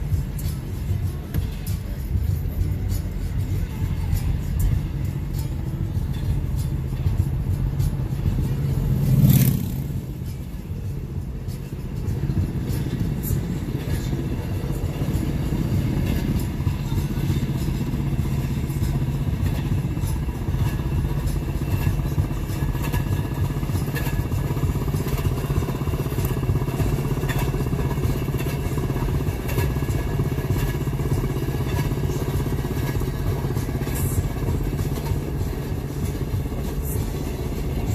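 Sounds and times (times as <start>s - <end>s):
engines droning: 0.0s - 37.9s.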